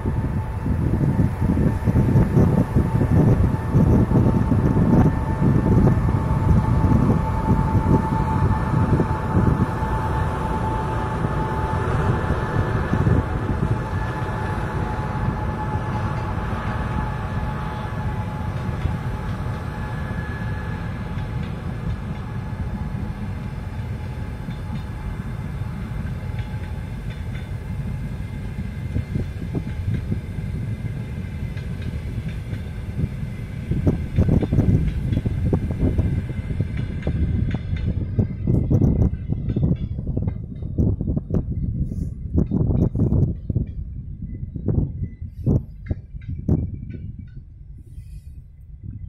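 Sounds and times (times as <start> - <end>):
steady whine: 0.0 - 39.4
train rolling past rumble: 0.0 - 49.0.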